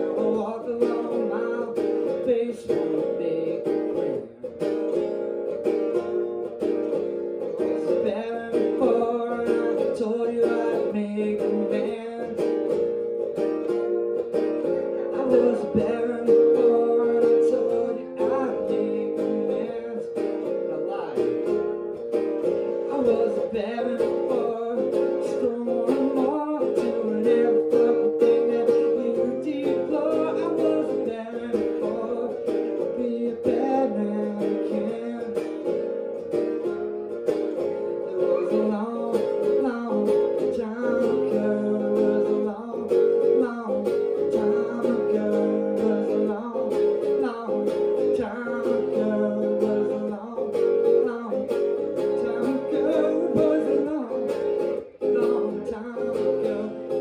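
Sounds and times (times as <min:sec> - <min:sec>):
acoustic guitar strumming: 0:00.0 - 0:57.0
man singing: 0:00.0 - 0:57.0.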